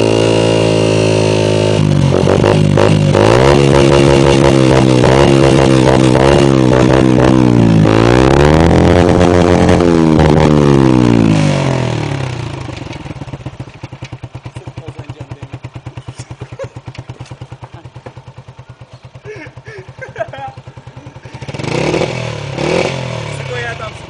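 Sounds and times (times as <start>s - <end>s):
motorcycle engine revving: 0.0s - 24.0s
motorcycle idling: 0.0s - 24.0s.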